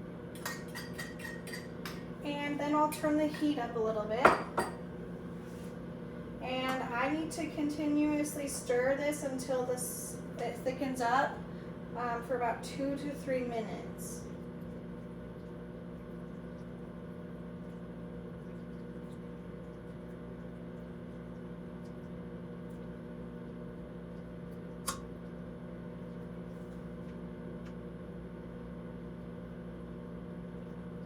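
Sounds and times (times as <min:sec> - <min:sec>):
microwave oven humming: 0:00.0 - 0:31.0.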